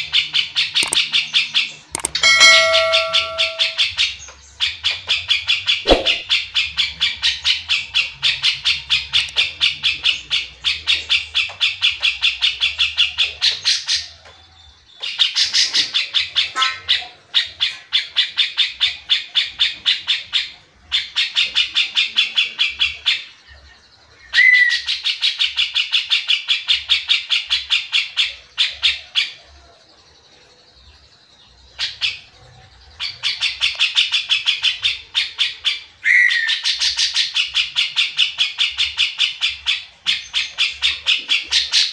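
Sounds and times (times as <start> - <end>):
bird singing rapid repeated notes: 0.0 - 16.5, 17.4 - 41.9.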